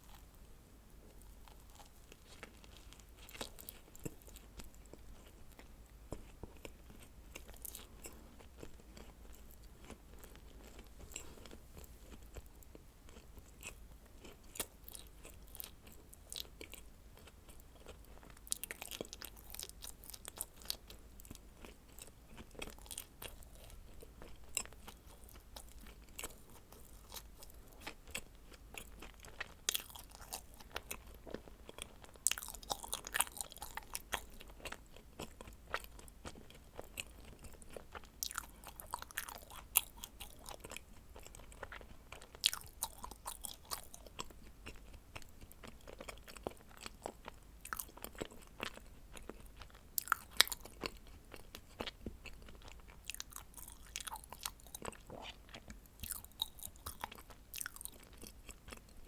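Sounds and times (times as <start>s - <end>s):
person chewing crunchy cookies: 0.0s - 59.0s.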